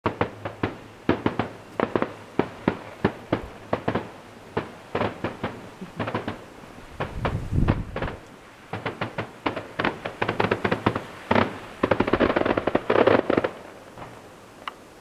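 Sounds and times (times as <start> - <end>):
fireworks bangs: 0.0 - 14.2.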